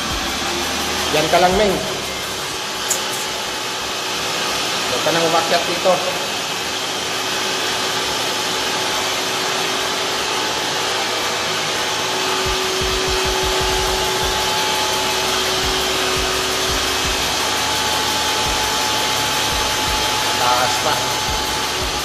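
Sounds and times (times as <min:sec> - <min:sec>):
machinery rushing hum: 0:00.0 - 0:22.0.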